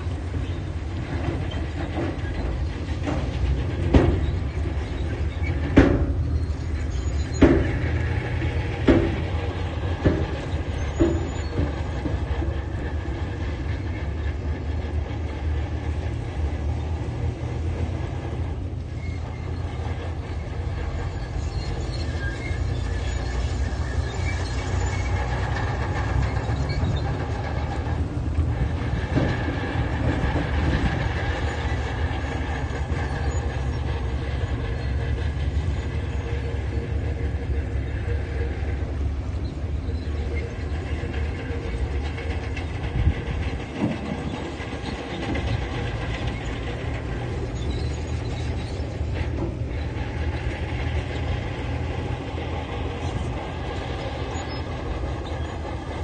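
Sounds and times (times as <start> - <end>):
diesel engine running under load: 0.0 - 56.0
steel tracks clanking: 0.0 - 56.0.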